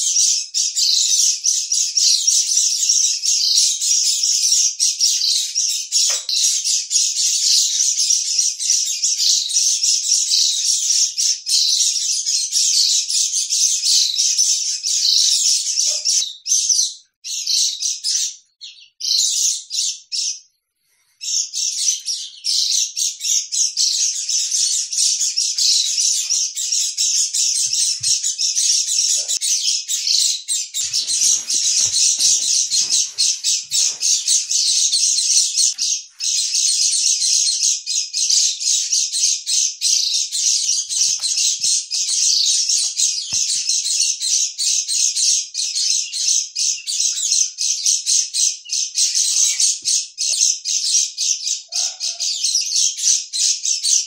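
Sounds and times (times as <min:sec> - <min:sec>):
high-pitched bird twittering: 0:00.0 - 0:20.4, 0:21.2 - 0:54.0.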